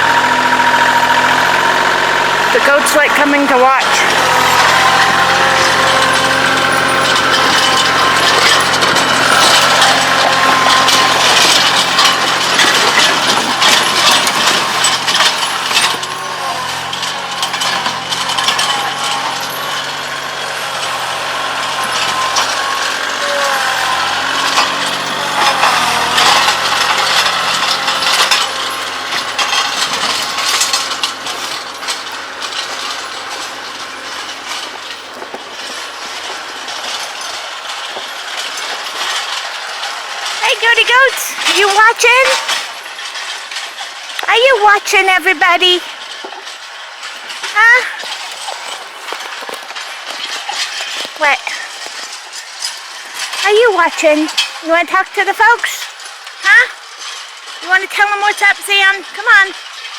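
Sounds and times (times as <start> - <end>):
metallic clanking and rattling: 0.0 - 59.9
tractor diesel engine running: 0.0 - 59.9.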